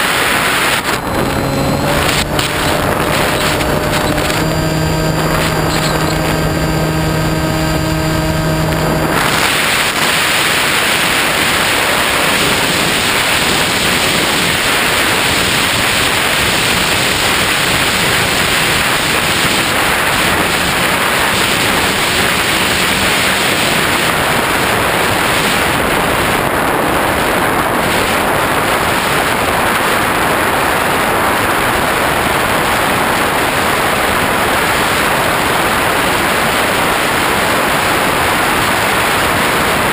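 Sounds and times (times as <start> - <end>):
electric motor and propeller hum: 0.0 - 39.9
loud wind noise: 0.0 - 39.9.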